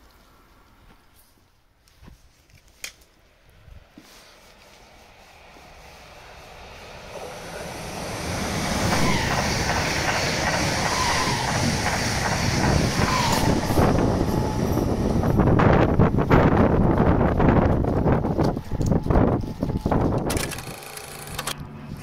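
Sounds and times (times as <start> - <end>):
train rail rumble and wheel noise: 2.8 - 22.0.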